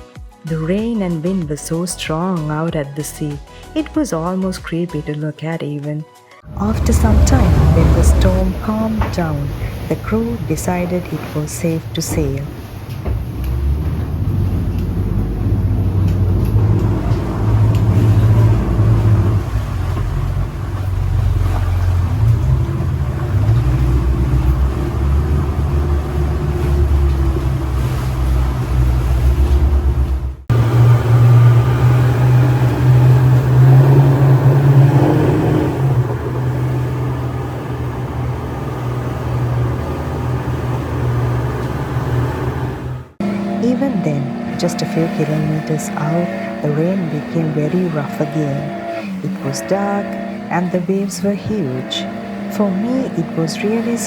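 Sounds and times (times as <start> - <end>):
speedboat engines droning: 6.4 - 54.0
water rushing noise: 6.5 - 54.0.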